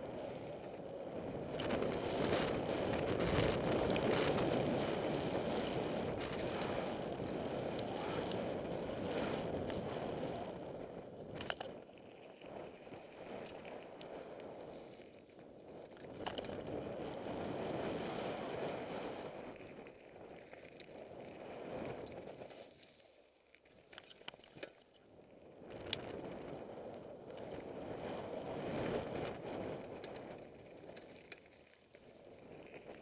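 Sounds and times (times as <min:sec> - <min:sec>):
bike rattling: 0:00.0 - 0:23.0, 0:25.8 - 0:33.0
bike tyres rolling over gravel: 0:00.0 - 0:33.0.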